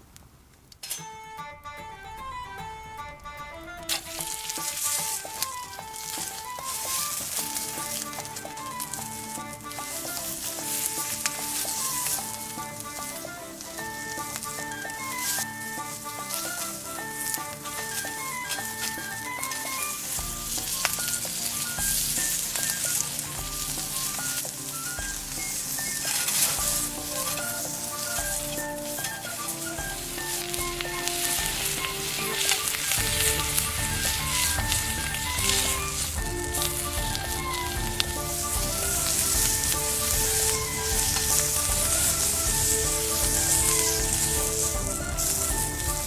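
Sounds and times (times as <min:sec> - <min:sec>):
plucked background music: 0:00.9 - 0:46.0
food sizzling in a pan: 0:03.9 - 0:46.0.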